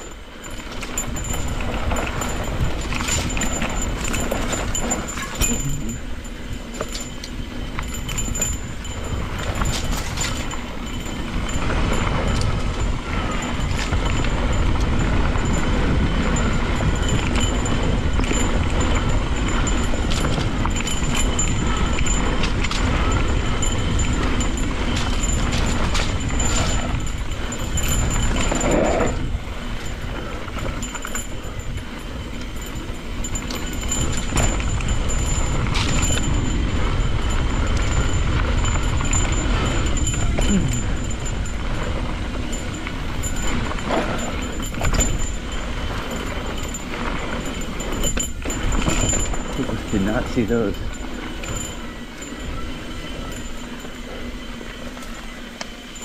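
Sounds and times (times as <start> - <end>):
bike clattering over bumps: 0.0 - 56.0
tyre and trail noise: 0.0 - 56.0
wind rumbling on microphone: 0.0 - 56.0.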